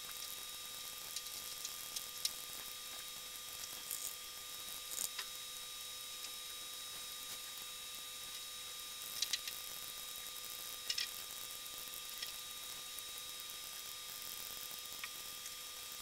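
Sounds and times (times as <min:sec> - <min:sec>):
faint electrical whine: 0:00.0 - 0:16.0.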